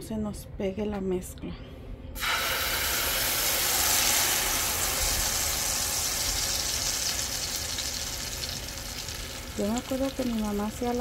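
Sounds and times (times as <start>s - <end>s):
spice paste sizzling in hot oil: 2.2s - 11.0s.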